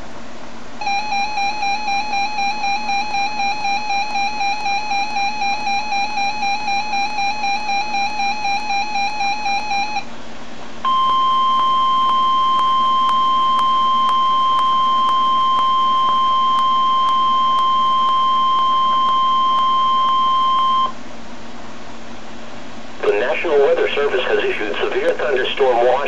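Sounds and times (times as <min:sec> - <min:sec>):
steady weather alert tone: 0:00.8 - 0:10.1, 0:10.8 - 0:21.0, 0:23.0 - 0:26.0.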